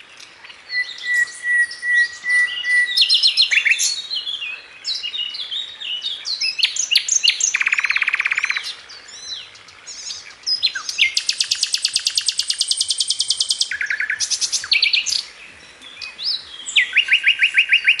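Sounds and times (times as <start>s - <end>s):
songbird singing with trills: 0.0s - 18.0s.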